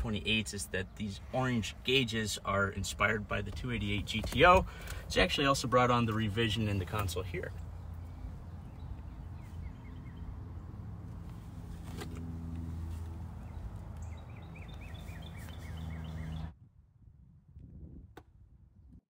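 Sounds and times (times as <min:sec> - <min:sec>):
birds chirping: 0:00.0 - 0:16.5
low mechanical hum: 0:00.0 - 0:16.5.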